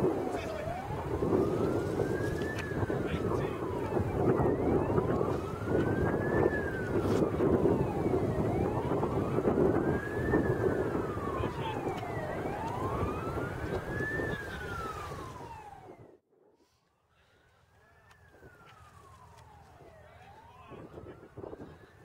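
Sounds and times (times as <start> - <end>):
fire engine siren wailing: 0.0 - 16.3, 16.9 - 22.0.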